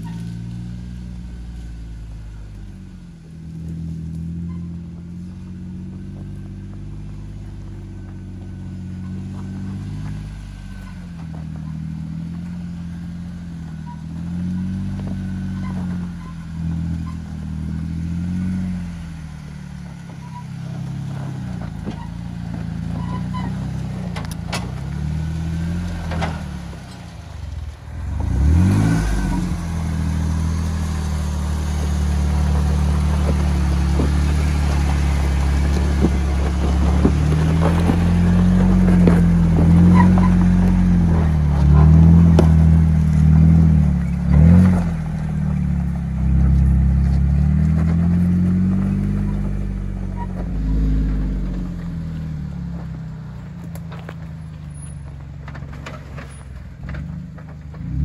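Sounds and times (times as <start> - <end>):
engine revving at low revs: 0.0 - 58.0.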